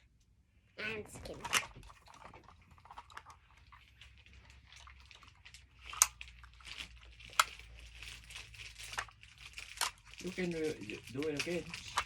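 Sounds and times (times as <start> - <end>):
plastic toy clicking and rustling: 1.2 - 12.0.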